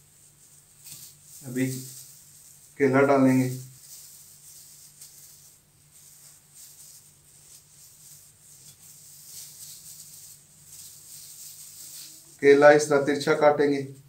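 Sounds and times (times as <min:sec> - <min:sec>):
plastic gloves rustling: 0:00.0 - 0:14.0.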